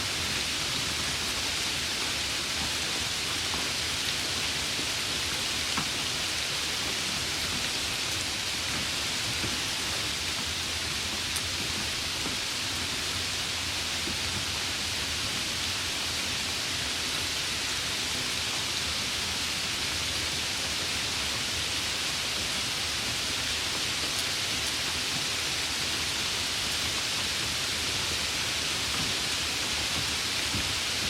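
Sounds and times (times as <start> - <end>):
steady rainfall: 0.0 - 31.0.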